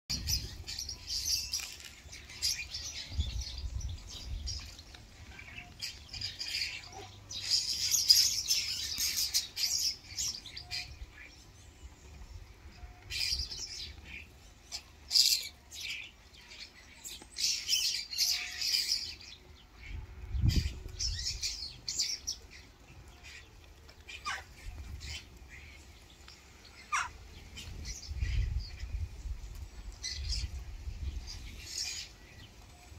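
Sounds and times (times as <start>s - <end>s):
starlings chattering and squawking: 0.1s - 32.9s.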